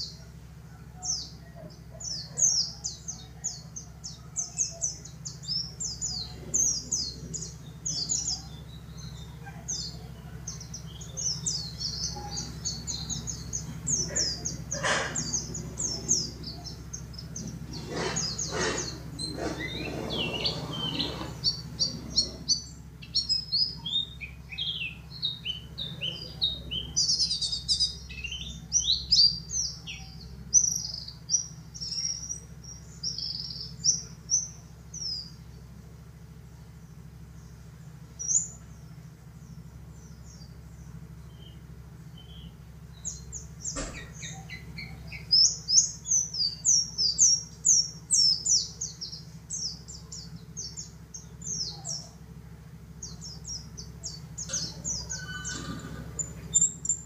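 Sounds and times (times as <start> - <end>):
bird twittering chirps: 0.0 - 57.0.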